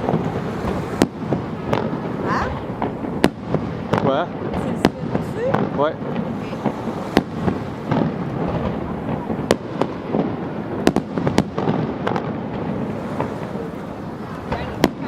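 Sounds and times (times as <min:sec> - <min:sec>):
fireworks crackling and rumbling: 0:00.0 - 0:15.0
sharp firework bangs: 0:00.0 - 0:15.0.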